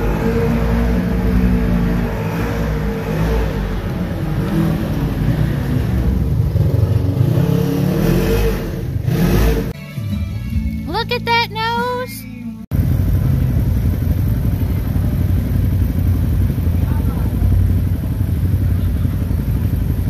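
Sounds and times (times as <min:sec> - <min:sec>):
utility vehicle engines revving: 0:00.0 - 0:09.8, 0:12.7 - 0:20.0.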